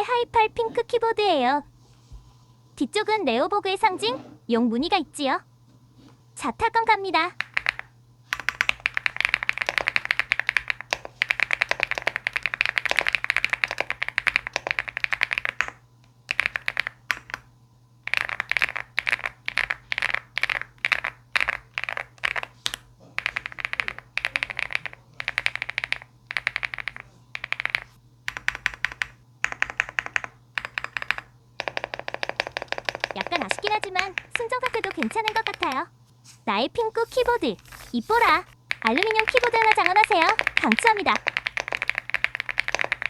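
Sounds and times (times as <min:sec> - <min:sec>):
mechanical keyboard typing: 0:07.2 - 0:35.9, 0:37.0 - 0:43.0.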